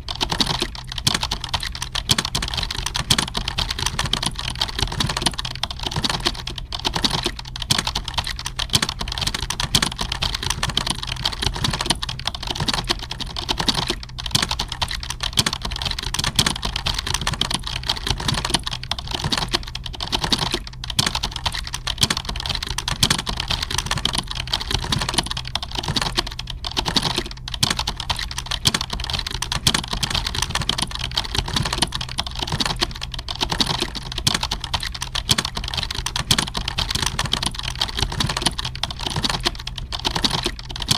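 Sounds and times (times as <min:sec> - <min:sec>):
computer keyboard typing: 0:00.0 - 0:40.9.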